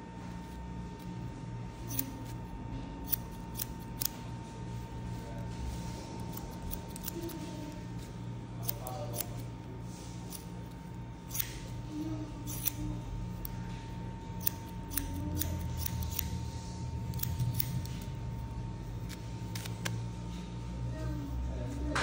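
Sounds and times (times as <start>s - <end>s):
faint steady hum: 0.0s - 22.0s
shears snipping hair: 1.8s - 20.5s.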